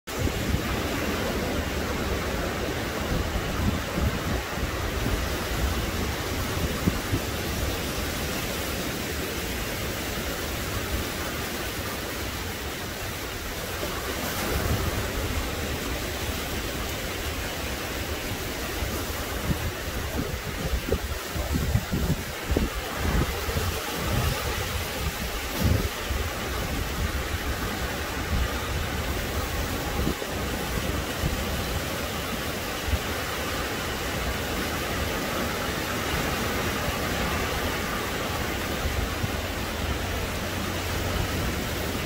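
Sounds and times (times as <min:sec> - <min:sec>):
ocean surf washing: 0:00.1 - 0:42.0
small waves breaking on beach: 0:00.1 - 0:42.0
wind rumbling on microphone: 0:00.1 - 0:42.0.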